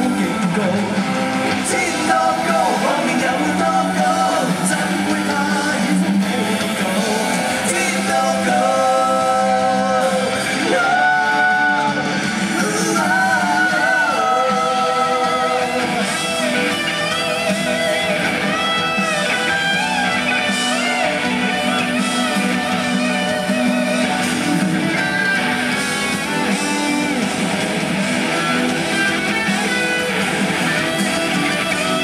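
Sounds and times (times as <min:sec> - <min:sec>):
electric guitar lead line: 0:00.0 - 0:32.0
rock band playing live: 0:00.0 - 0:32.0.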